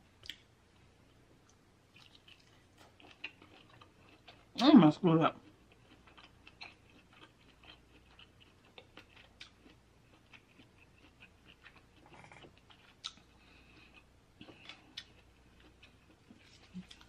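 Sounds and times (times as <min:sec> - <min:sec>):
close-miked chewing: 0:00.2 - 0:04.6, 0:05.3 - 0:17.0.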